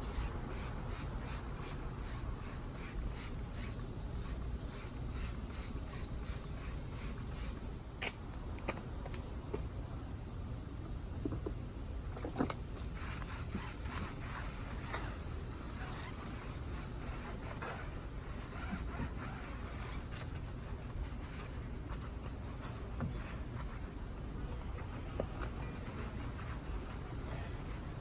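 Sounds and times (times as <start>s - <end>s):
scrubbing rubbing strokes on tire: 0.0s - 7.6s, 12.8s - 28.0s.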